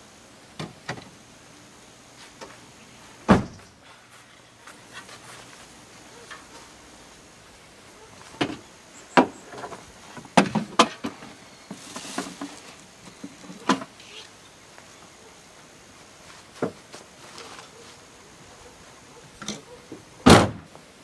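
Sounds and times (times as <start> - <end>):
soft hiss: 0.0 - 21.0.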